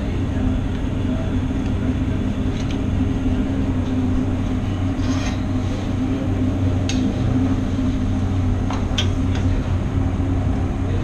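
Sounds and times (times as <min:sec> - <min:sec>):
exhaust hood fan drone: 0:00.0 - 0:11.0.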